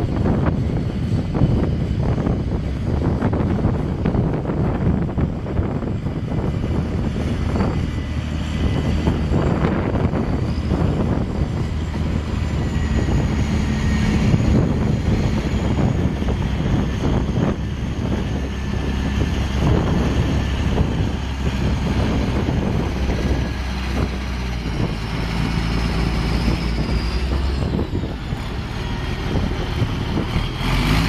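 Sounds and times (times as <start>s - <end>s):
dump truck diesel engine rumble: 0.0s - 31.0s.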